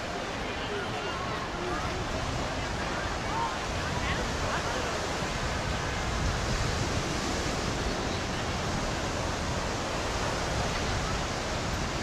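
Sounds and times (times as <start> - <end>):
faint voices: 0.0 - 12.0
small waves breaking on sand: 0.0 - 12.0
wind rumbling on microphone: 0.0 - 12.0.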